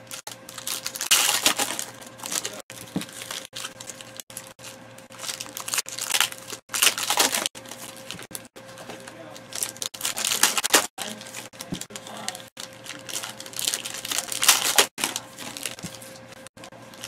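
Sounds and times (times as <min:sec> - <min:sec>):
foil wrapper crinkling: 0:00.0 - 0:17.0.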